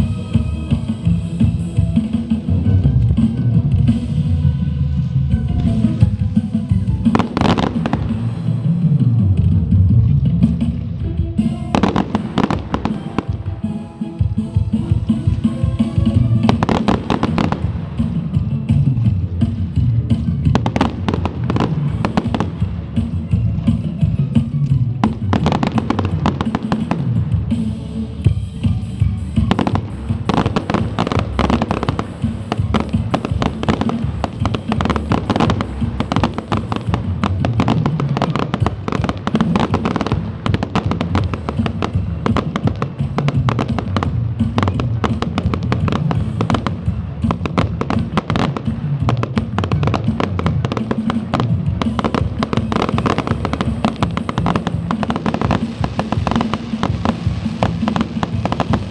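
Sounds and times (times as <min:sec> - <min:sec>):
fireworks bangs and crackles: 0:00.0 - 0:58.9
music playing: 0:00.0 - 0:58.9.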